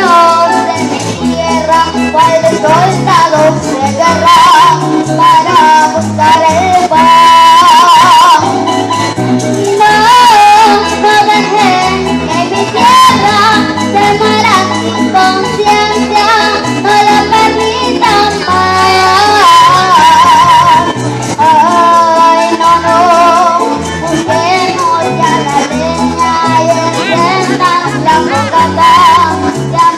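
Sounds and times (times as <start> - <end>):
girl singing with vibrato: 0.0 - 29.9
live backing band: 0.0 - 29.9.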